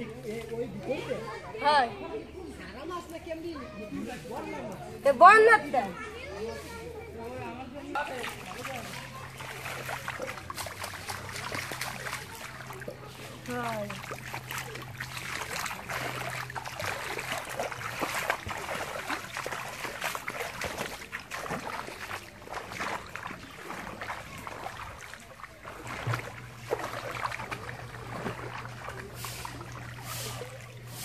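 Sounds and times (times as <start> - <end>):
feet wading through water: 0.0 - 31.0.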